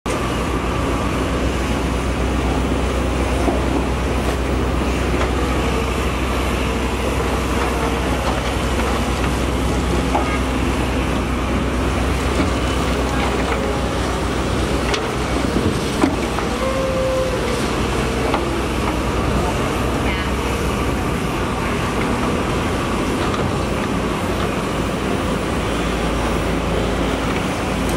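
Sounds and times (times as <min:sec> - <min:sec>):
diesel engines rumbling: 0:00.1 - 0:27.9.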